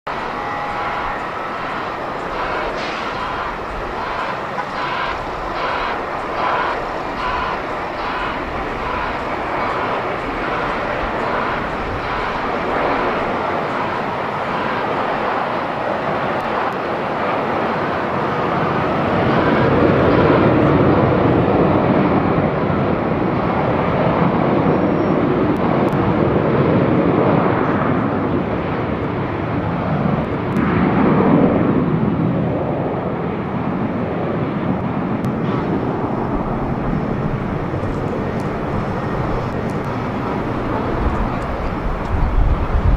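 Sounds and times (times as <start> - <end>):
jet engines rushing: 0.1 - 42.9.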